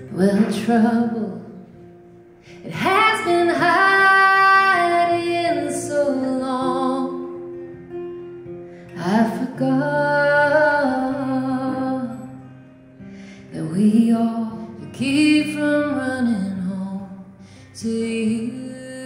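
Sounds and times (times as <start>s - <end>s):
acoustic guitar: 0.0s - 19.0s
woman singing folk song: 0.0s - 19.0s.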